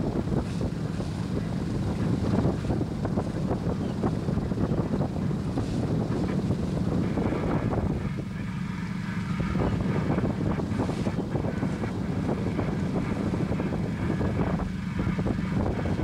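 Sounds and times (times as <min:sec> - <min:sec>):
steady low hum: 0:00.0 - 0:16.0
wind buffeting microphone: 0:00.0 - 0:16.0.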